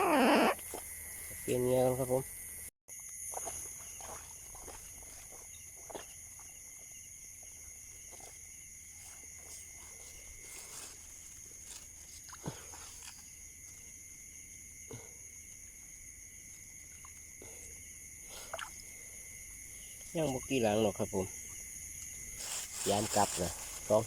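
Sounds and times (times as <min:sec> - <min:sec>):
insect chorus buzzing: 0:00.0 - 0:24.0.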